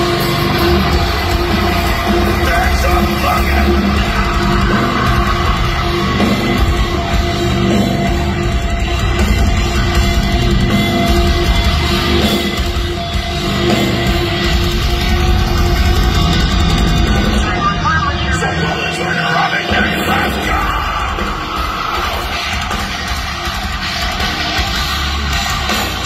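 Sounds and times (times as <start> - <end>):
heavy metal band playing live: 0.0 - 26.0.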